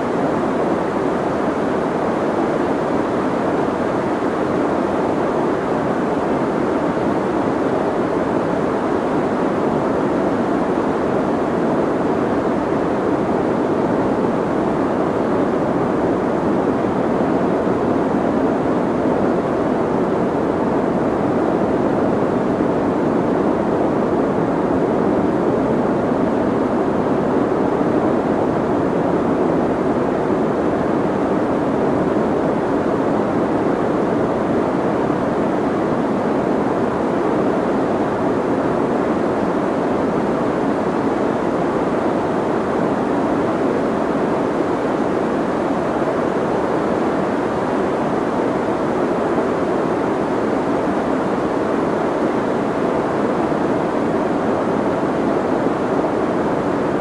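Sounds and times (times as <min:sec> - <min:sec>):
soft white noise: 0:00.0 - 0:57.0.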